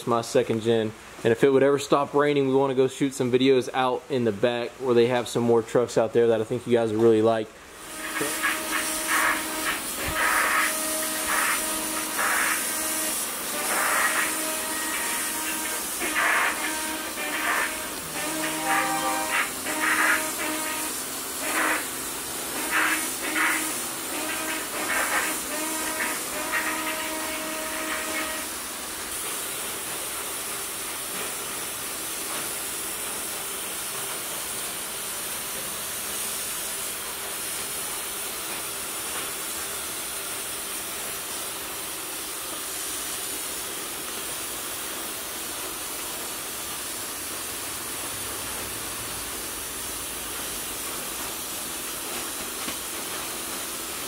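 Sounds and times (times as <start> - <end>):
spray gun hissing: 7.7 - 54.0.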